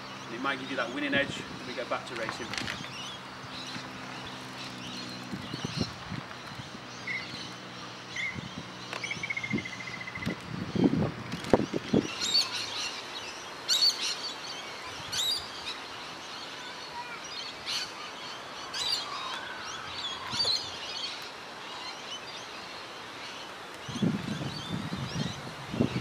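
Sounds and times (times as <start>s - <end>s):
birds warbling and chirping: 0.0s - 26.0s
outdoor background hum: 0.0s - 26.0s.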